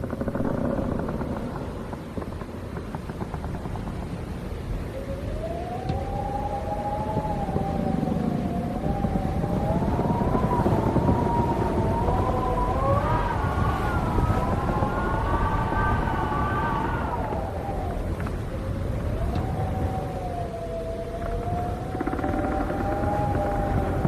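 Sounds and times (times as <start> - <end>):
low rumble of gusting wind: 0.0 - 24.0
wind howling whistle: 0.0 - 24.0.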